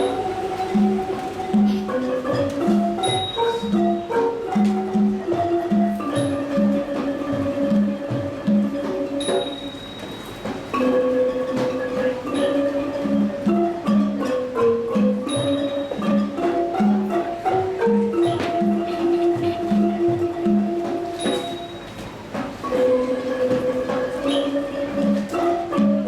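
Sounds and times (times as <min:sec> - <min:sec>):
wooden xylophones playing melody: 0:00.0 - 0:26.0.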